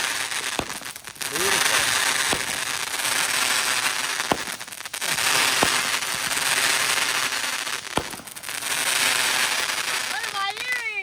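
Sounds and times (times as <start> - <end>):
firework sharp pops: 0.0 - 10.8
firework crackling hiss: 0.0 - 11.0.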